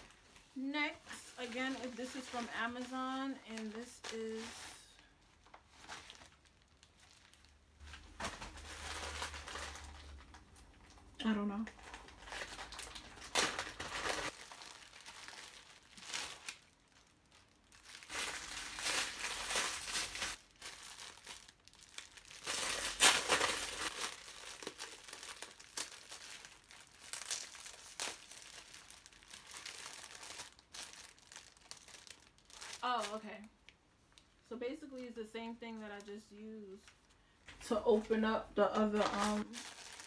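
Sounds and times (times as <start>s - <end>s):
packaging crinkling and rustling: 0.0s - 34.4s, 38.7s - 40.0s.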